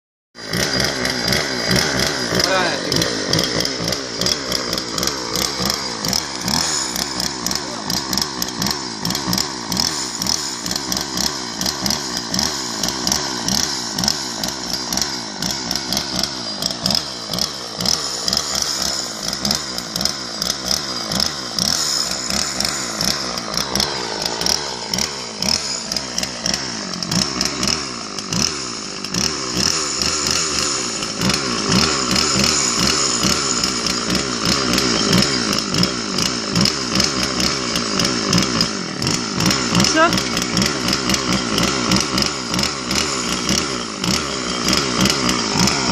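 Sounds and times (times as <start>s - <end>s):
chainsaw running: 0.4s - 45.9s.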